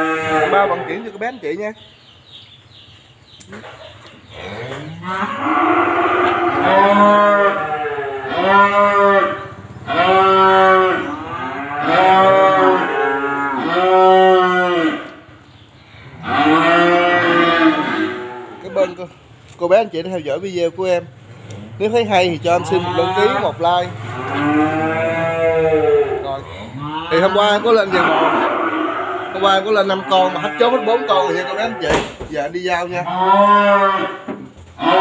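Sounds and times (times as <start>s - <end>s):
calves mooing: 0.0s - 1.3s, 3.6s - 15.3s, 16.1s - 19.1s, 21.4s - 32.0s, 32.8s - 35.0s.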